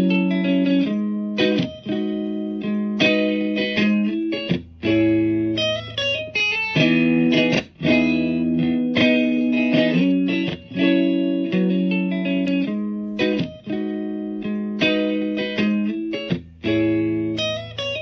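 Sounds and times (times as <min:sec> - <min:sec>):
electric guitar with effects pedal: 0:00.0 - 0:18.0.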